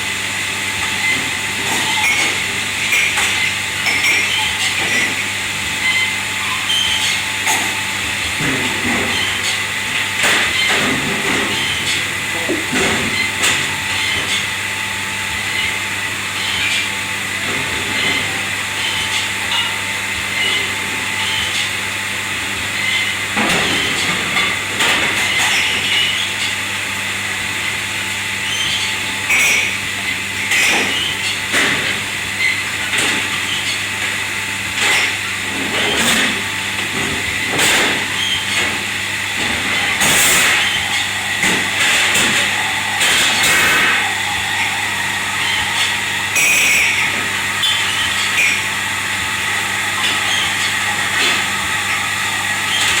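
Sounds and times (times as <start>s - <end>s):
kitchen machinery hum and hiss: 0.0s - 53.0s.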